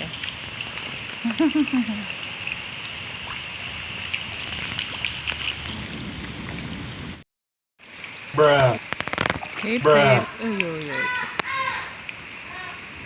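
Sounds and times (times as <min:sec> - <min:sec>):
steady rain falling: 0:00.0 - 0:07.2, 0:07.8 - 0:13.0.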